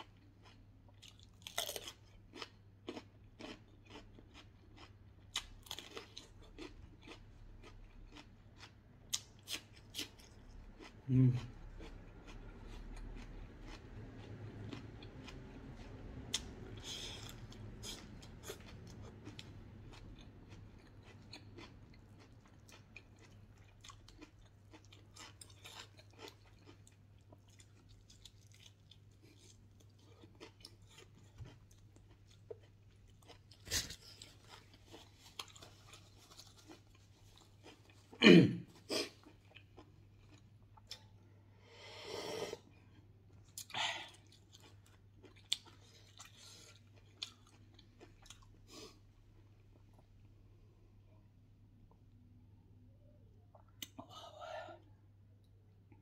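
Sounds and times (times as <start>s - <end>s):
wet chewing and crunching: 0.0s - 38.2s, 38.8s - 41.4s, 42.6s - 50.5s.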